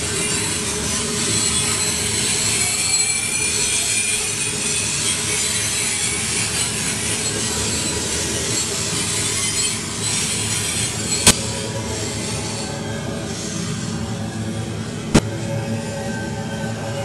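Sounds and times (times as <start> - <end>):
freight train cars rumbling: 0.0 - 17.0
wheels squealing on rails: 0.0 - 17.0.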